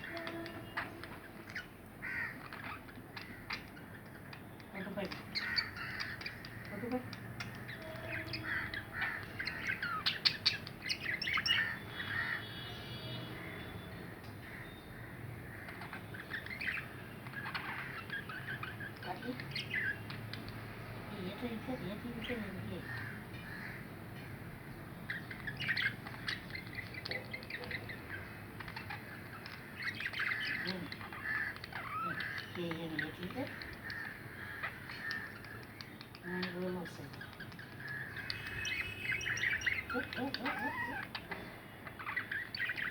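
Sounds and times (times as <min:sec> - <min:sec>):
budgerigars chattering: 0:00.0 - 0:12.5, 0:14.4 - 0:20.5, 0:21.4 - 0:23.8, 0:24.6 - 0:42.9.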